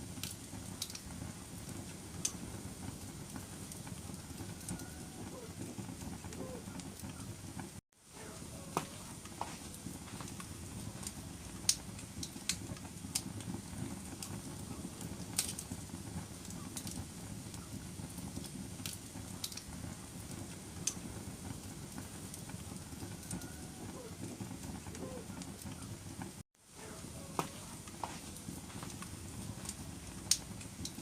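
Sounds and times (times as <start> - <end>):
fire crackles and pops: 0.0 - 31.0
wood fire burning: 0.0 - 31.0.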